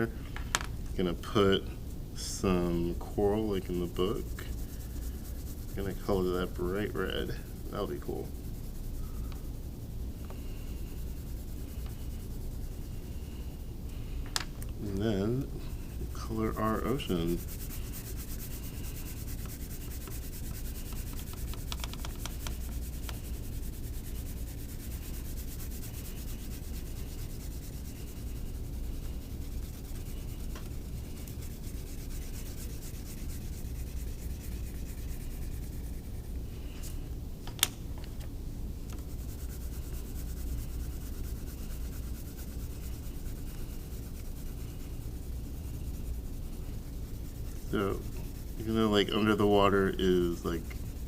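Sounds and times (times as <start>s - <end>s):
crayon scrubbing on paper: 2.2s - 9.7s, 10.3s - 14.1s, 14.9s - 37.0s, 38.9s - 51.0s.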